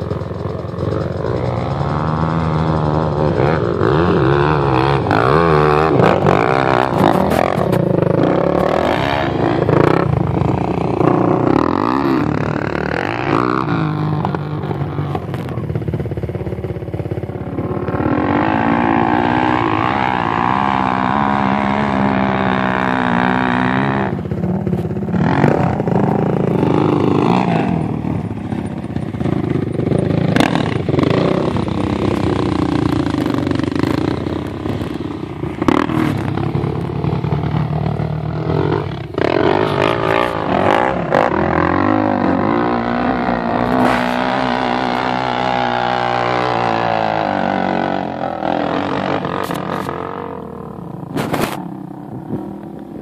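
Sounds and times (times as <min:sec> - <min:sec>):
quad bike engines revving: 0:00.0 - 0:53.0.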